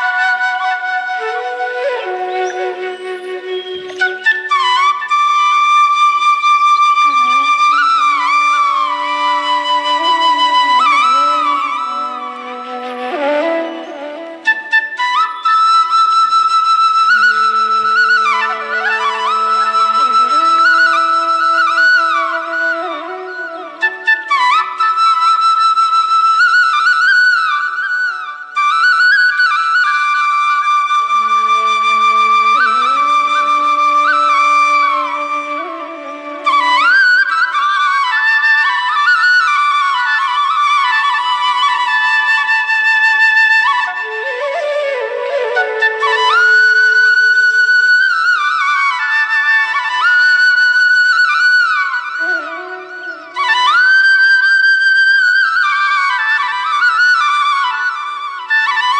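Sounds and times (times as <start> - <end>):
flute playing slow melody: 0.0 - 58.9.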